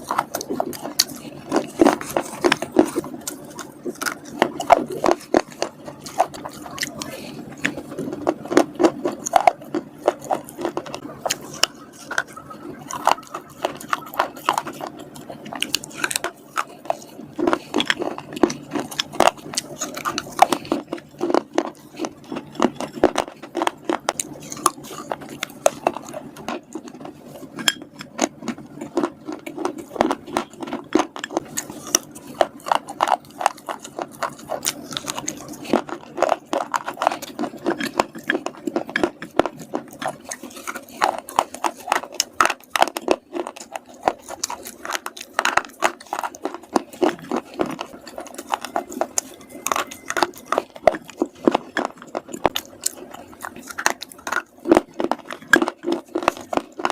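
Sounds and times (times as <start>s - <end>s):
crunching of slate chips: 0.0s - 56.9s.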